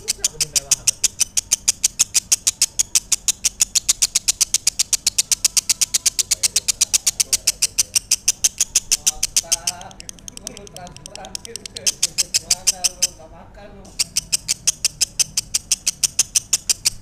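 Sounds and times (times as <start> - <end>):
lovebird trilling: 0.0 - 17.0.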